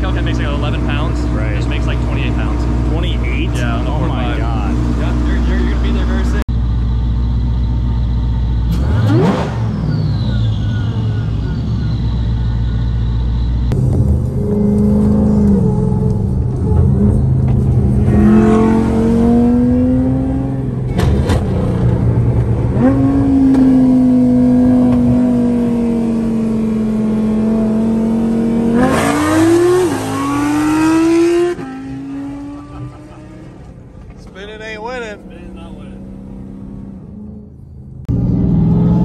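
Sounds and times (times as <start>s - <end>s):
car engine accelerating hard: 0.0s - 6.5s, 7.3s - 39.0s.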